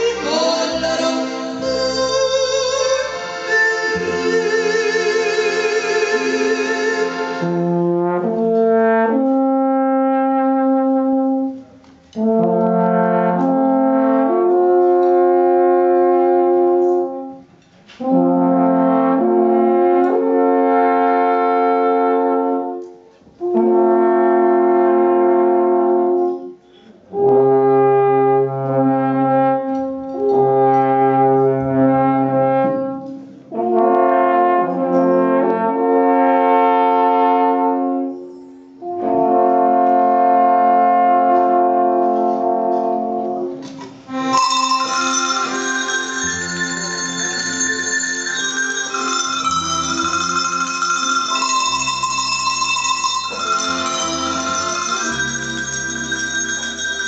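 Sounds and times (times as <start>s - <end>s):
alpenhorns playing held notes: 0.0s - 38.2s, 38.8s - 57.0s.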